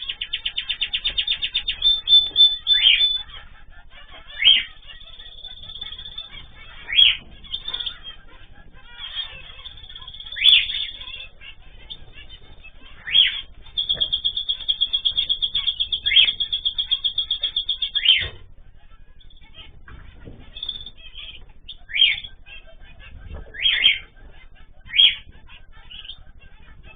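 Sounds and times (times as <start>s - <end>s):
birds calling: 0.0s - 26.9s
rapid repeated bird notes: 0.0s - 26.9s.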